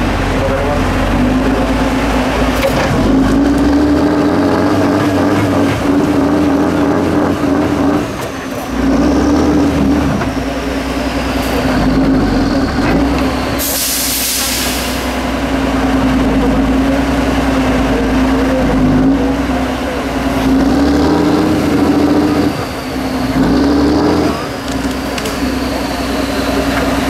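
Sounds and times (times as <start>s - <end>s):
diesel truck engine under load: 0.0s - 27.0s.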